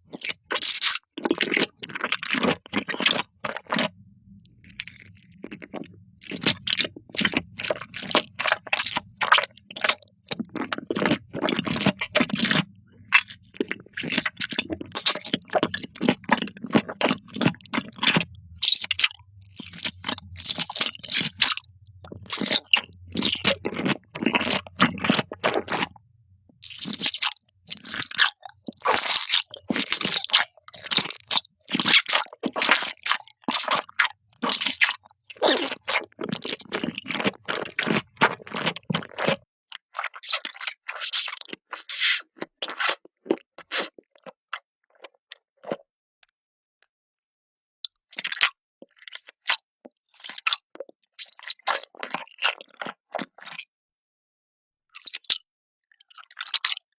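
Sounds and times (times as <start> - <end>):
chewing crunchy food: 0.0 - 45.9, 47.8 - 53.7, 54.9 - 56.9.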